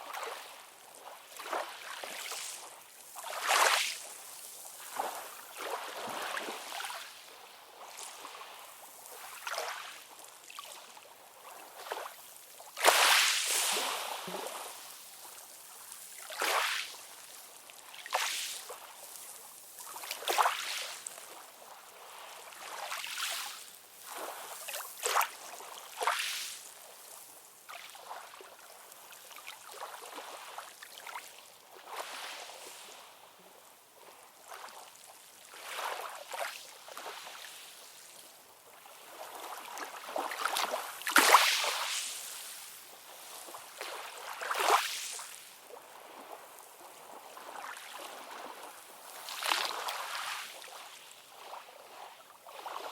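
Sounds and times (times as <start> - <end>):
ocean waves lapping and splashing: 0.0 - 52.9.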